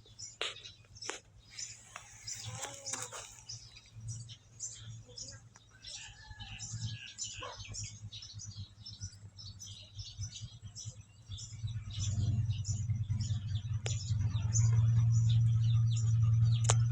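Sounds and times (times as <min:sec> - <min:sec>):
small animals chirping and squeaking: 0:00.0 - 0:16.8
steady low hum: 0:00.0 - 0:16.9.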